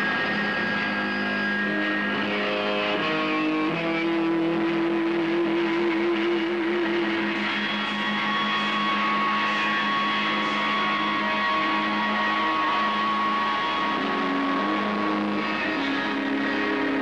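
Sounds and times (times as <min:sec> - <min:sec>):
distorted electric guitar droning: 0:00.0 - 0:17.0.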